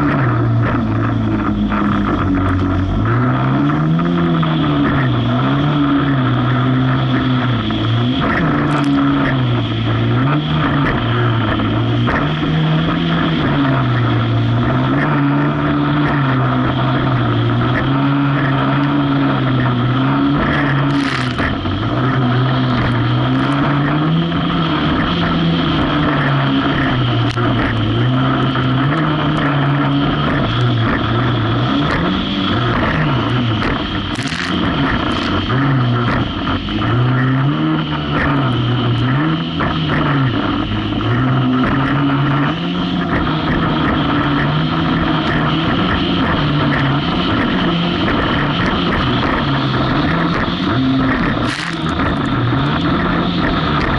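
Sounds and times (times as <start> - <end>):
jet ski engine running hard: 0.0 - 53.9.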